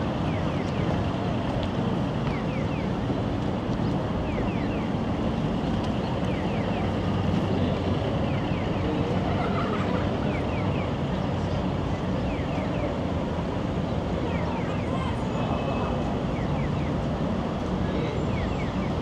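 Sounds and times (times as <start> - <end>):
city traffic hum: 0.0 - 19.0.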